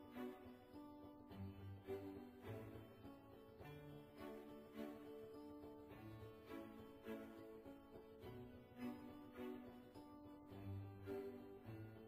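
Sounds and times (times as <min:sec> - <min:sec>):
soft slow background music: 0:00.0 - 0:12.0.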